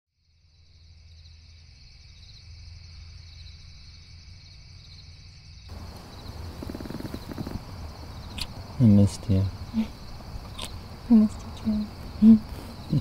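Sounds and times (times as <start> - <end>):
crickets chirping: 0.2 - 13.0.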